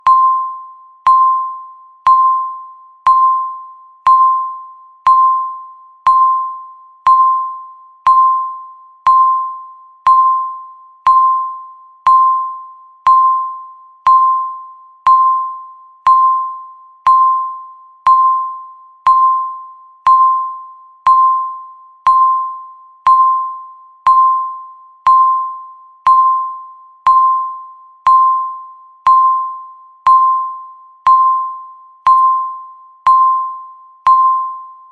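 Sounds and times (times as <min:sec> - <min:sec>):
timer beeping: 0:00.0 - 0:34.9.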